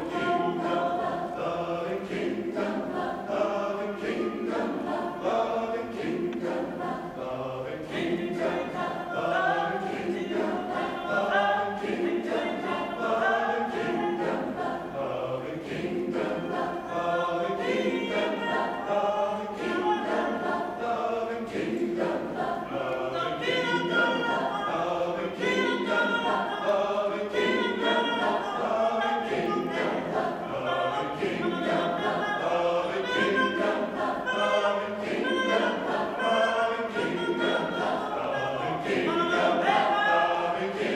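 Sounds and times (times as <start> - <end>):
mixed choir singing a cappella: 0.0 - 40.9.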